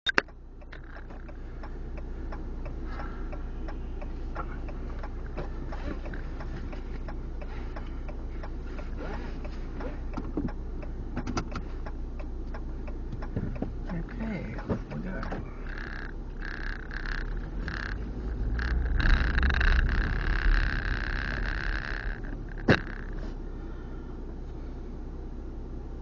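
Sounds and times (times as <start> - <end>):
car engine and road hum: 0.0 - 26.0
light clicks and ticks: 0.1 - 23.2.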